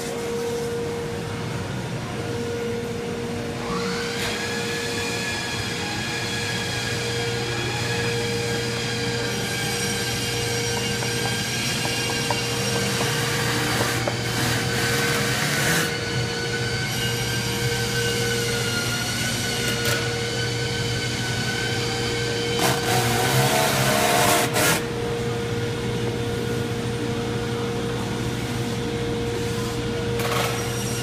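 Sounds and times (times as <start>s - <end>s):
machinery hum with whining tones: 0.0s - 31.0s.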